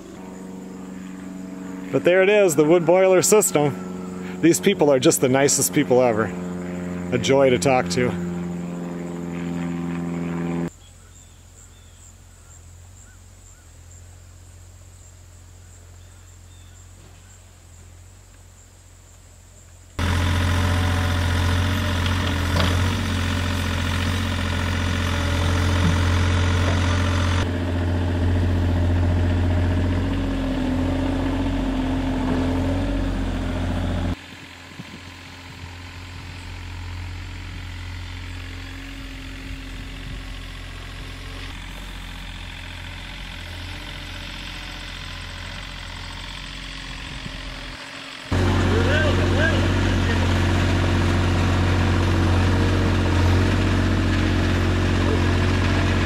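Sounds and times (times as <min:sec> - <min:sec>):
excavator diesel engine: 0:00.0 - 0:10.7, 0:20.0 - 0:56.0
quiet engine hum: 0:00.0 - 0:56.0.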